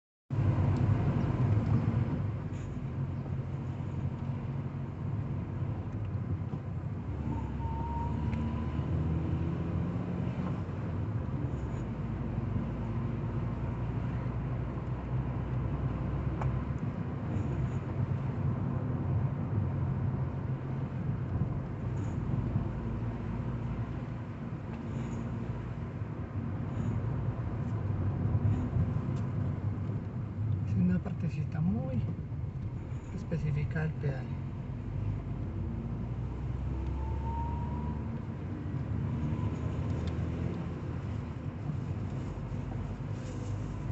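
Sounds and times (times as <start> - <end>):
engine hum: 0.3 - 43.9
low vehicle rumble: 0.3 - 43.9.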